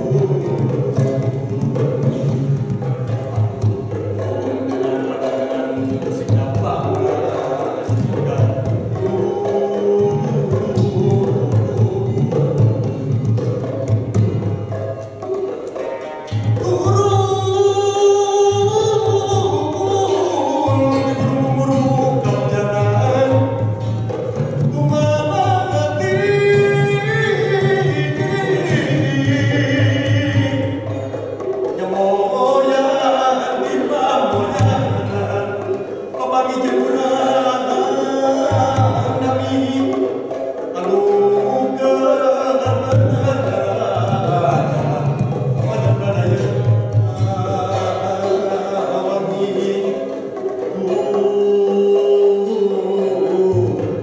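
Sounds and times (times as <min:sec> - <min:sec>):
gamelan ensemble playing: 0:00.0 - 0:54.0
hand drum beating: 0:00.0 - 0:54.0
person singing: 0:04.2 - 0:13.2, 0:15.8 - 0:23.8, 0:24.6 - 0:31.1, 0:31.8 - 0:54.0.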